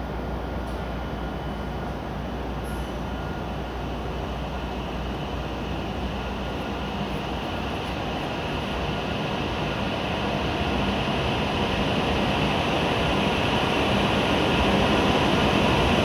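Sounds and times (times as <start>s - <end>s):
train low hum: 0.0s - 16.0s
train running noise: 0.0s - 16.0s.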